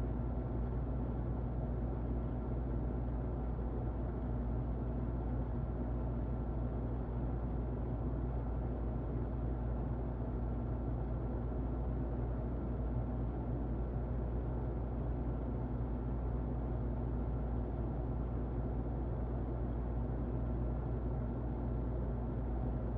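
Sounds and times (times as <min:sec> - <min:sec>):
faint hum: 0:00.0 - 0:22.9.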